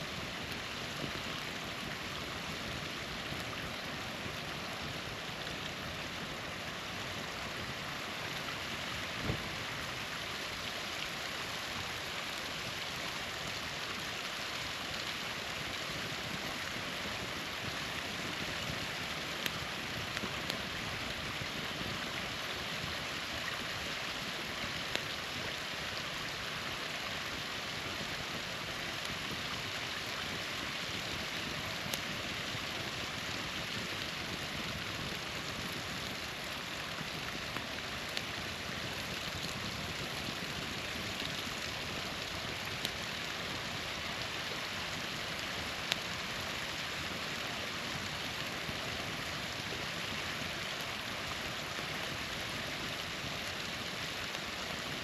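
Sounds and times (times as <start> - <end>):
small waterfall rushing: 0.0 - 55.0.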